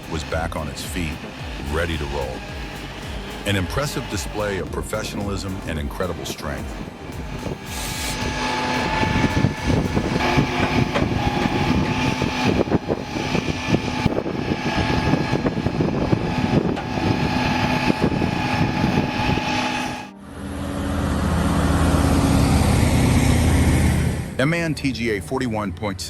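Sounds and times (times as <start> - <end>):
heavy vehicle engine rumble: 0.0 - 25.5
high whine: 0.0 - 26.0.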